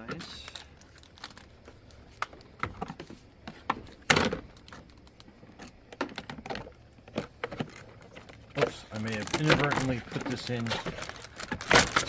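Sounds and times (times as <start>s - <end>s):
plastic clatter: 0.0s - 12.0s.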